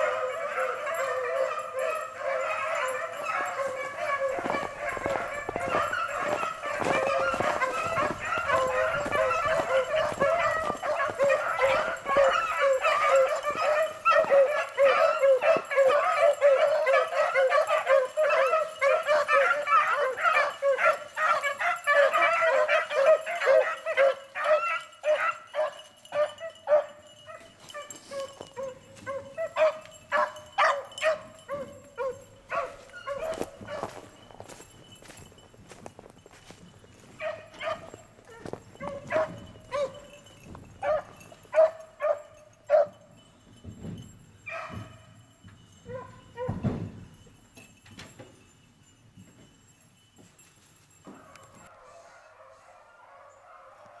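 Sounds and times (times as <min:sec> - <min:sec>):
dogs baying: 0:00.0 - 0:35.4, 0:36.9 - 0:43.1, 0:44.4 - 0:45.2, 0:45.8 - 0:46.8.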